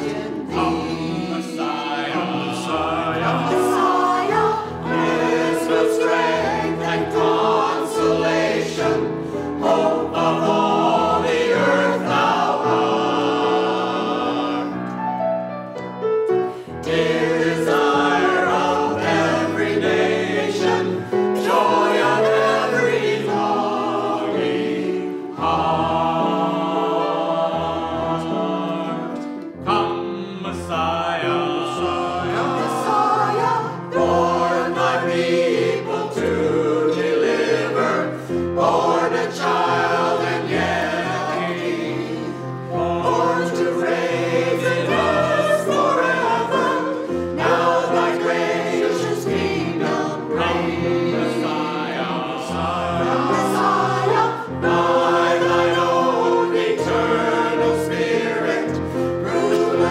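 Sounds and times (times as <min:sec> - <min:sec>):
choir singing: 0:00.0 - 0:15.4, 0:16.3 - 0:59.9
grand piano: 0:00.0 - 0:59.9.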